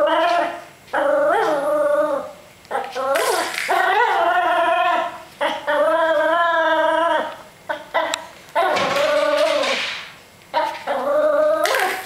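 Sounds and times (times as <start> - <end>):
puppy whining: 0.0 - 9.8, 10.5 - 12.0.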